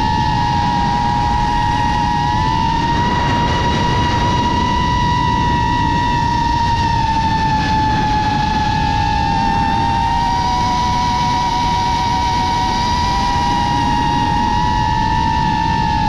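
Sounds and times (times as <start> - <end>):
drone propellers whining: 0.0 - 16.0
rushing air rumble: 0.0 - 16.0.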